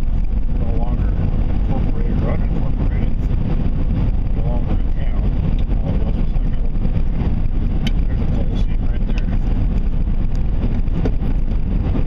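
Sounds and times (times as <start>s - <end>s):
vehicle rumbling in motion: 0.0s - 12.0s.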